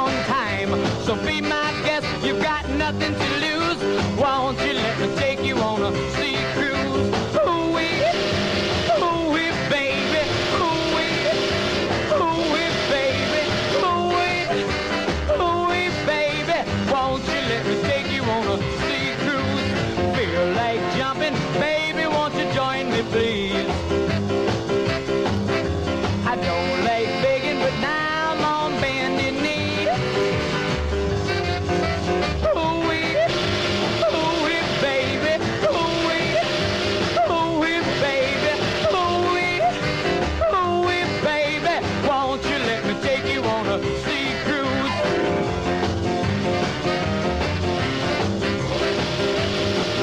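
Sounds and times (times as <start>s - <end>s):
upbeat rock and roll music: 0.0s - 50.0s.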